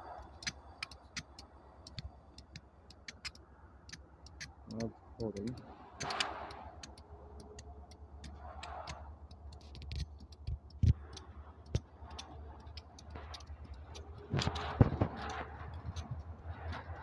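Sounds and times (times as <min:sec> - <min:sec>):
train wheels clicking: 0:00.0 - 0:17.0.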